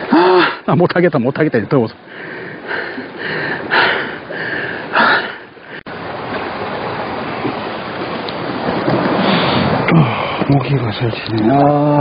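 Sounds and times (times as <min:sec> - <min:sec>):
sea waves washing against rocks: 0:01.5 - 0:12.0.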